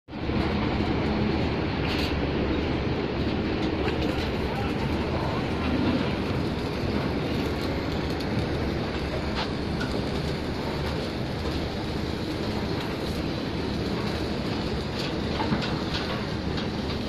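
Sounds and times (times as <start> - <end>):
machine rumbling and rattling: 0.2 - 17.0.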